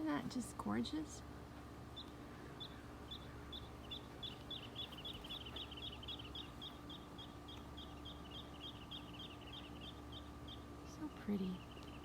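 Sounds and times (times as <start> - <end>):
faint steady hum: 0.0 - 12.0
small birds calling: 0.6 - 12.0.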